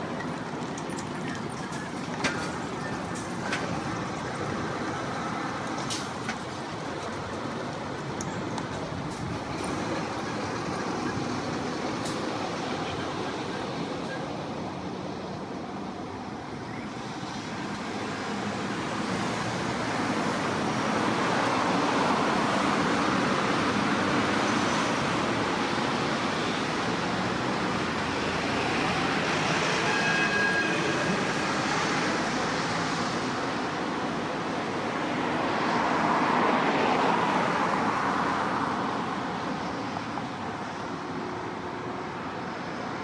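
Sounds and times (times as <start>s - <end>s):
passing vehicles: 0.0s - 43.0s.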